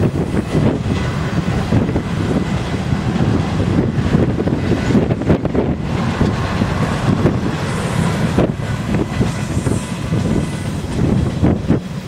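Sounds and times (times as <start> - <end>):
train rumbling past: 0.0 - 12.0
wind buffeting microphone: 0.0 - 12.0.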